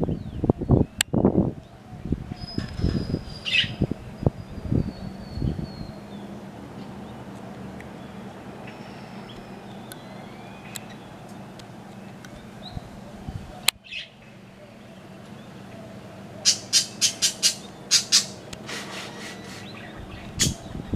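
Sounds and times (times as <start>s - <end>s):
birds chirping: 0.0s - 20.9s
harsh squawking bird calls: 2.4s - 7.3s, 7.9s - 11.5s, 12.1s - 20.9s.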